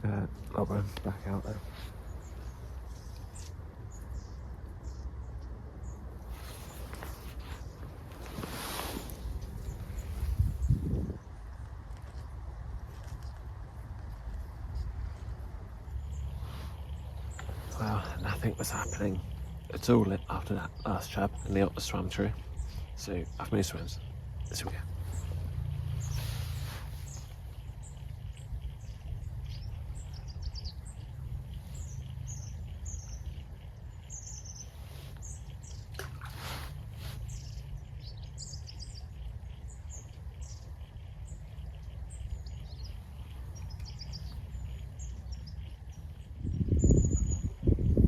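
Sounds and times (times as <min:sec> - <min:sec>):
steady low rumble: 0:00.0 - 0:35.9, 0:36.8 - 0:48.0
small birds chirping: 0:00.0 - 0:48.0.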